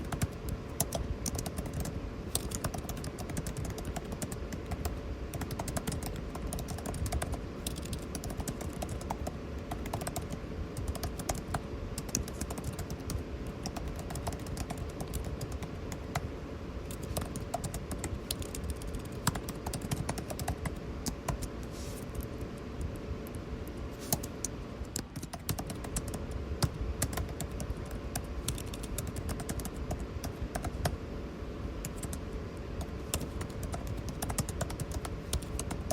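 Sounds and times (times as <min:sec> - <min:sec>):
computer keyboard typing: 0:00.0 - 0:23.4, 0:24.0 - 0:31.0, 0:31.8 - 0:32.2, 0:32.8 - 0:35.9
air conditioner hum: 0:00.0 - 0:35.9.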